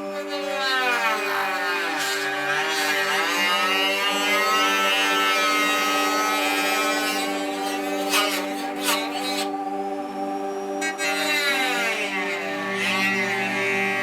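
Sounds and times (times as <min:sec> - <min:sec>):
rotary tool whining: 0:00.0 - 0:14.0.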